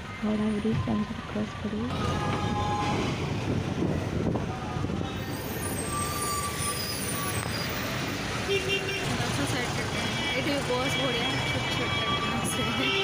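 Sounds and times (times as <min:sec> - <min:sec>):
engine and road noise: 0:00.0 - 0:13.0.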